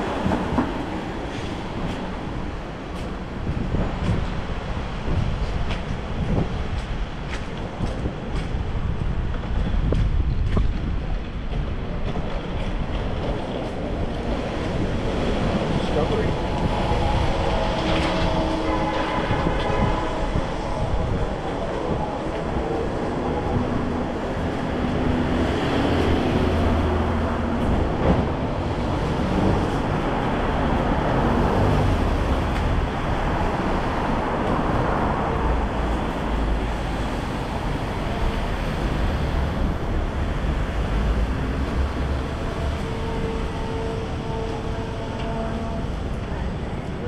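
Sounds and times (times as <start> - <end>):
street traffic passing: 0.0 - 47.0.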